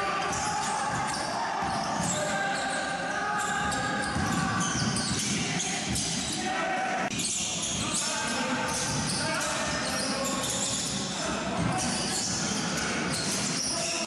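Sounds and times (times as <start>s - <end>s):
players' voices: 0.0s - 14.0s.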